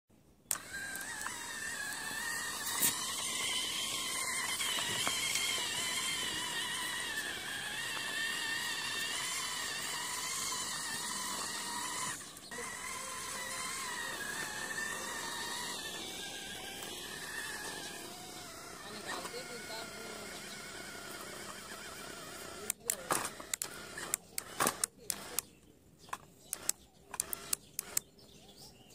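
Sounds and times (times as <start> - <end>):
toy electric motor whining: 0.5 - 28.1.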